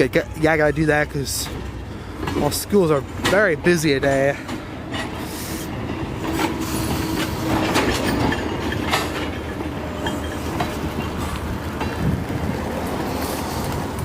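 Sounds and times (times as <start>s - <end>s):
steady rumble of rolling cars: 0.0s - 14.0s
train wheels clicking over rail joints: 1.2s - 14.0s.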